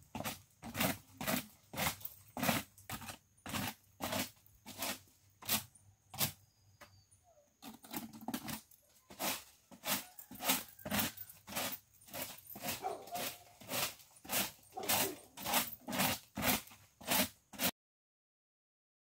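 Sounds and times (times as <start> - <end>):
yard tool scraping ground: 0.0 - 17.7.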